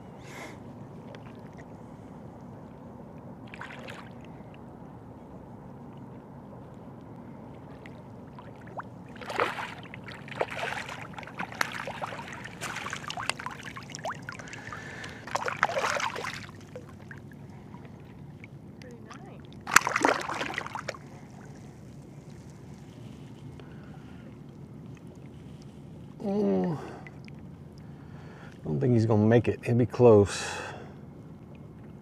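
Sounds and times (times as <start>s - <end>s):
low water wash: 0.0s - 28.7s
water splashing and sloshing: 0.6s - 28.3s.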